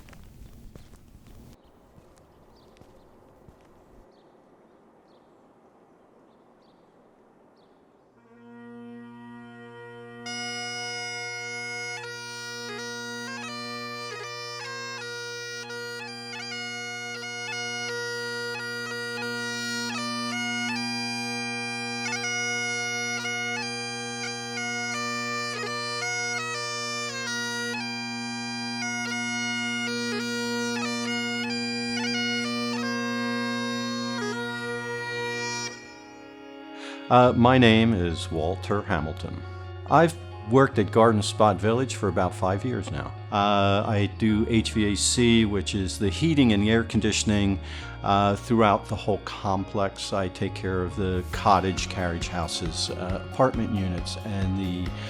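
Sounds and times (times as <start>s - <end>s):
bagpipe chanter melody: 8.2s - 55.0s
bagpipe drones: 8.2s - 55.0s.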